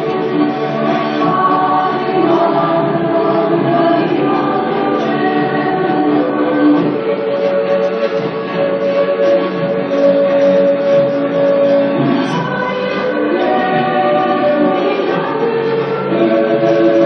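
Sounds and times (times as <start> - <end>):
choir-like singing: 0.0 - 17.0.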